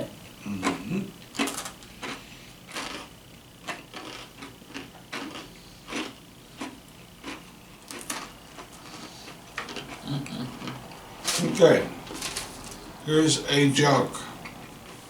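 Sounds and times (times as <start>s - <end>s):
person chewing crunchy crackers: 0.4s - 12.9s.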